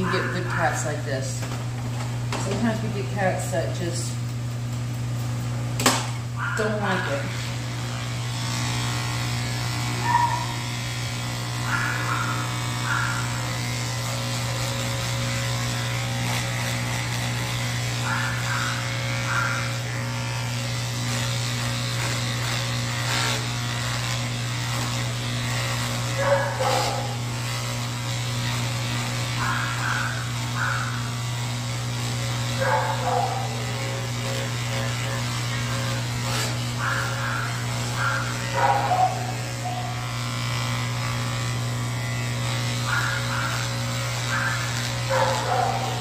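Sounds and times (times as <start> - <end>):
electric clipper humming: 0.0 - 46.0.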